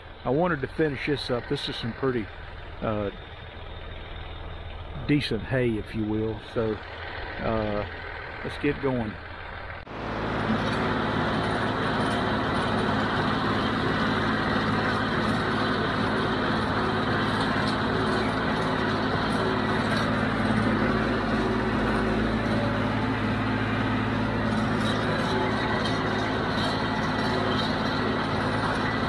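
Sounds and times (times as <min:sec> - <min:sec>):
baler mechanical clatter: 0:00.0 - 0:29.0
tractor engine hum: 0:00.0 - 0:29.0.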